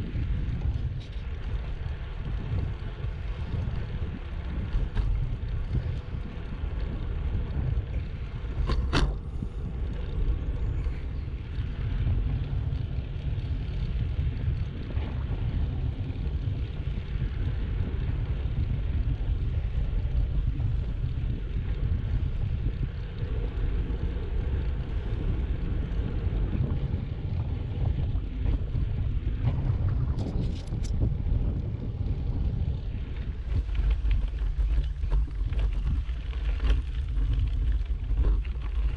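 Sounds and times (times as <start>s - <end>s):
road and tyre noise: 0.0s - 38.9s
wind buffeting microphone: 0.0s - 38.9s.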